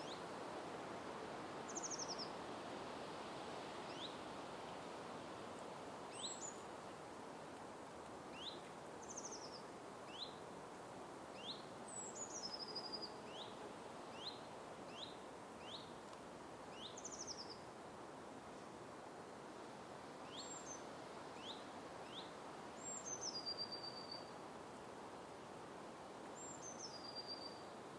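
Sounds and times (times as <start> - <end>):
steady background hiss: 0.0 - 27.9.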